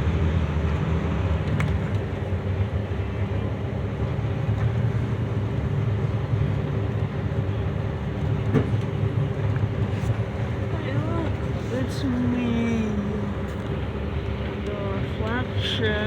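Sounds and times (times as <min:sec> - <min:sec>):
steady low rumbling: 0:00.0 - 0:16.0.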